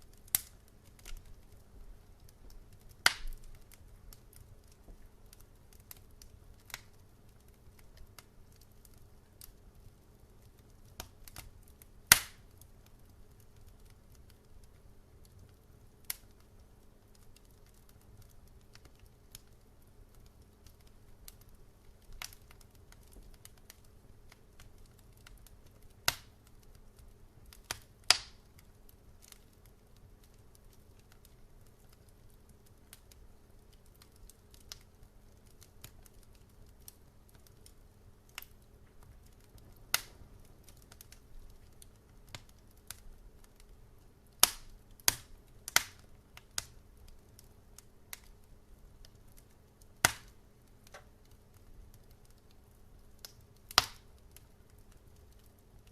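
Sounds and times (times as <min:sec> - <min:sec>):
loud snaps of fire: 0:00.0 - 0:55.9
wood fire crackling: 0:00.0 - 0:55.9.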